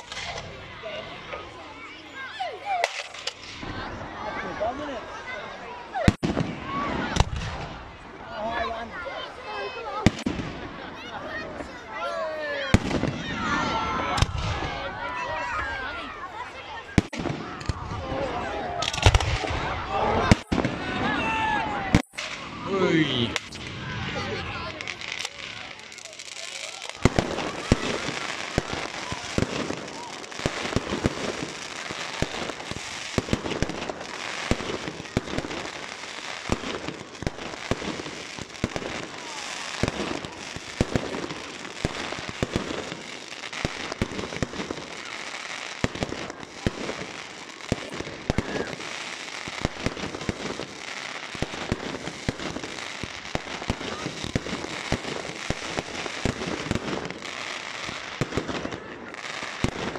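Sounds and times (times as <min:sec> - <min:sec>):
fireworks bursting with sharp bangs: 0:00.0 - 0:59.9.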